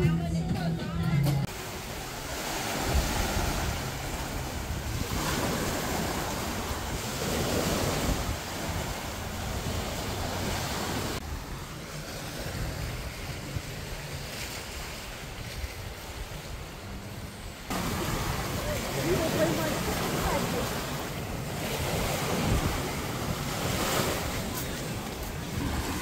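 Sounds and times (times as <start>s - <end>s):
sea surf: 1.4s - 26.0s
wind on microphone: 1.5s - 26.0s.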